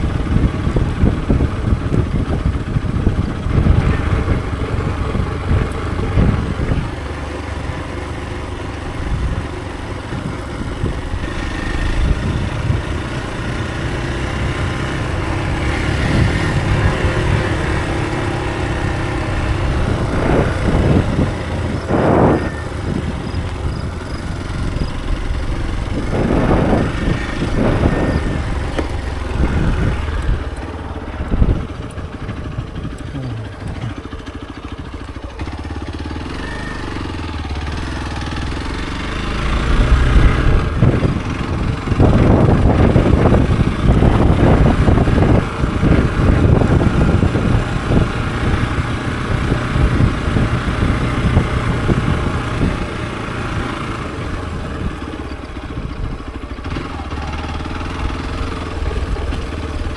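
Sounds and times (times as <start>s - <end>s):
single-cylinder engine running: 0.0s - 59.9s.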